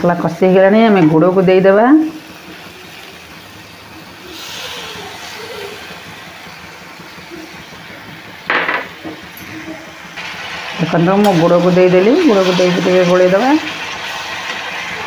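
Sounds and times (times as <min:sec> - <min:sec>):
spices sizzling in a pan: 0:00.4 - 0:15.0.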